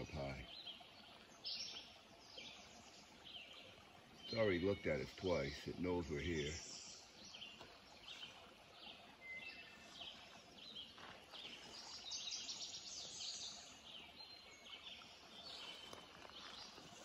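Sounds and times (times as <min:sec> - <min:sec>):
faint steady hiss: 0:00.0 - 0:17.0
songbirds chirping and trilling: 0:00.0 - 0:17.0.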